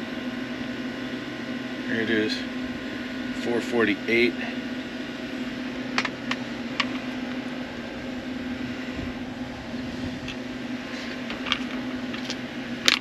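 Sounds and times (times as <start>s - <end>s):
condensing unit humming: 0.0s - 13.0s.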